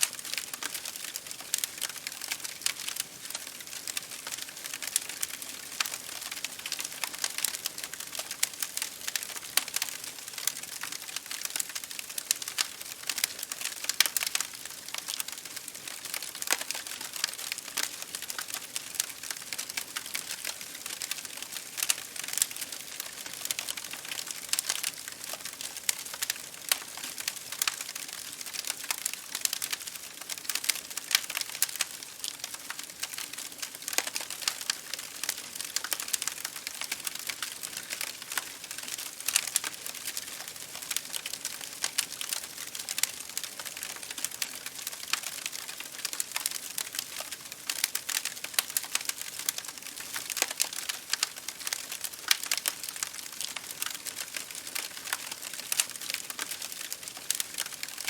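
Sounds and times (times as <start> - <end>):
rain tapping on window: 0.0 - 58.0
wood fire crackling: 0.0 - 58.0.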